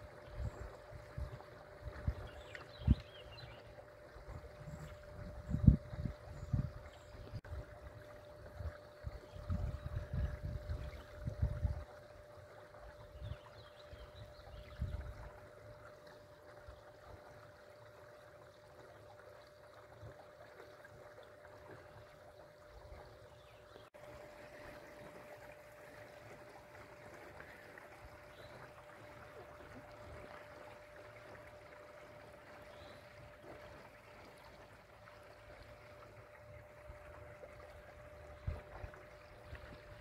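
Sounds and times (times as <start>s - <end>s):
electric outboard motor whine: 0.0s - 18.7s, 23.9s - 40.0s
water rushing along hull: 0.0s - 40.0s.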